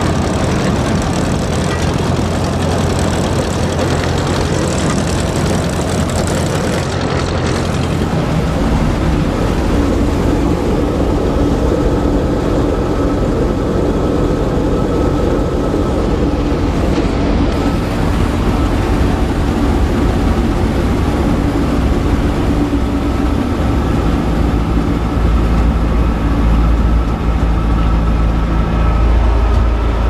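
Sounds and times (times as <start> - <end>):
combine harvester running: 0.0 - 30.0
high steady machinery tone: 0.0 - 30.0.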